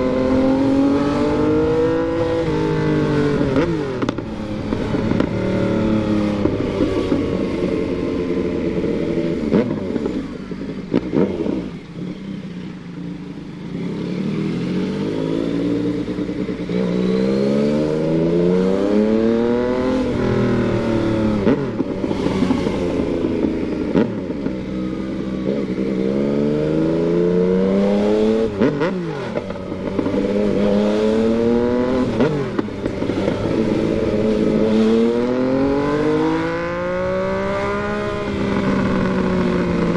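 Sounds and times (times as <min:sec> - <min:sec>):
motorcycle engine accelerating through gears: 0:00.0 - 0:39.9.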